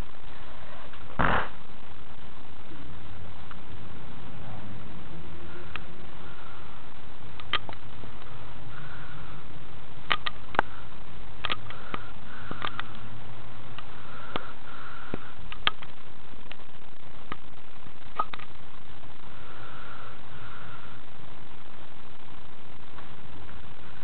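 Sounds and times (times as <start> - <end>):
microphone hiss: 0.0 - 24.0.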